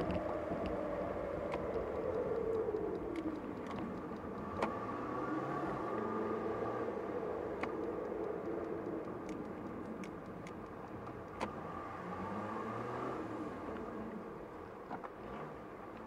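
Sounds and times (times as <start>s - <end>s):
car engine and road noise: 0.0s - 16.0s
light ticks: 0.0s - 16.0s.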